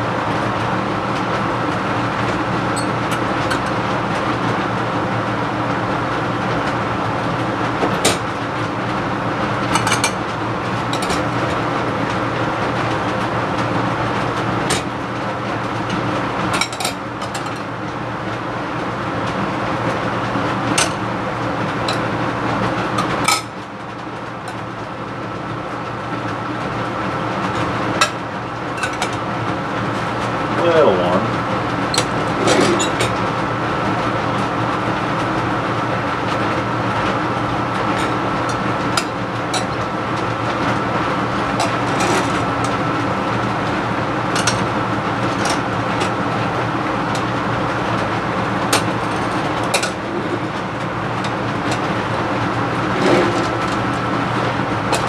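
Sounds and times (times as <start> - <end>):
blower fan humming: 0.0 - 55.0.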